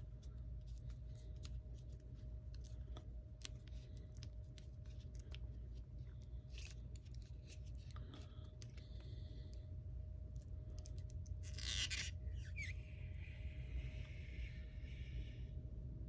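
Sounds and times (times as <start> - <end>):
small clicks and scratches: 0.0 - 14.8
steady low hum: 0.0 - 16.0.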